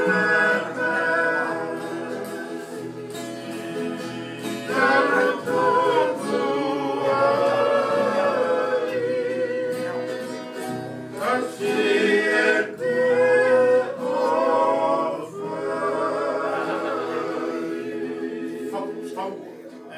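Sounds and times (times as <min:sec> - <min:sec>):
men singing in harmony: 0:00.0 - 0:19.4
strummed guitars and ukuleles: 0:00.0 - 0:19.9.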